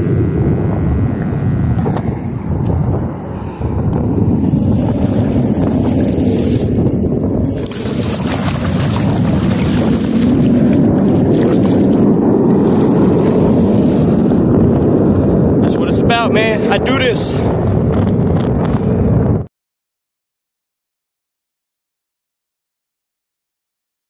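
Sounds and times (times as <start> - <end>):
wind buffeting microphone: 0.0 - 19.5.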